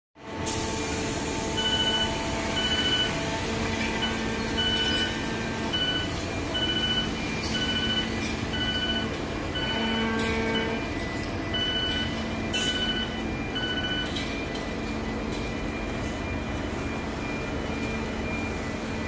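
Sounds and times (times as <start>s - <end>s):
diesel machinery running: 0.2s - 19.0s
two-pitched reversing alarm beeps: 0.6s - 19.0s.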